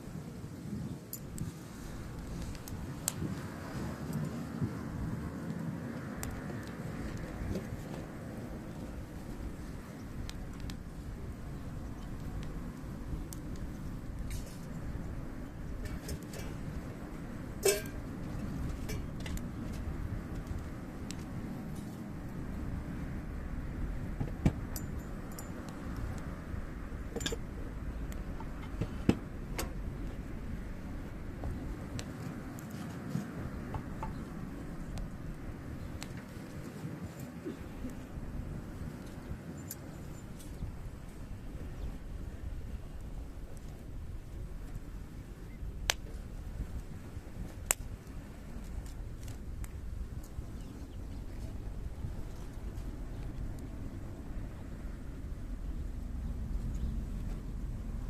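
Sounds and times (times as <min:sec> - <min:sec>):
campfire flames rumbling: 0:00.0 - 0:58.0
fire crackles and pops: 0:00.0 - 0:58.0.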